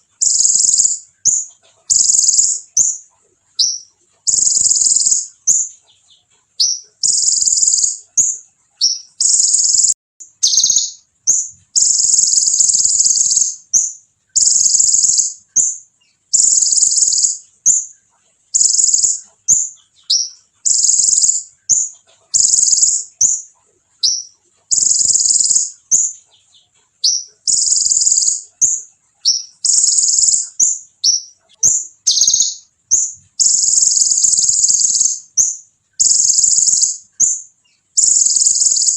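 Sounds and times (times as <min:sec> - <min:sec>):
bird chips: 0:00.0 - 0:17.9, 0:18.6 - 0:38.9
songbird trilling: 0:00.0 - 0:17.9, 0:18.5 - 0:38.9.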